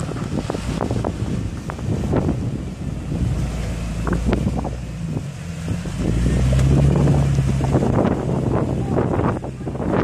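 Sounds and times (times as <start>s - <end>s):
engine pulling under load: 0.0s - 10.0s
wind buffeting microphone: 0.0s - 10.0s.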